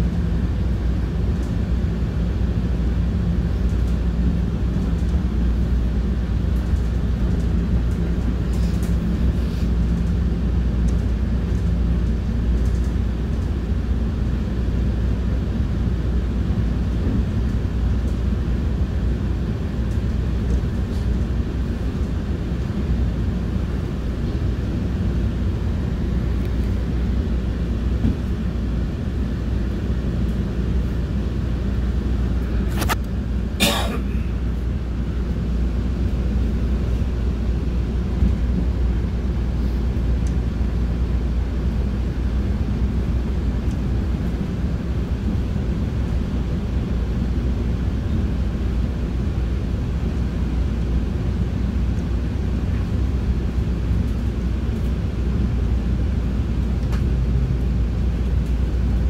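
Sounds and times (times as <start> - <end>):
train hum: 0.0 - 59.0
train rumbling: 0.0 - 59.0.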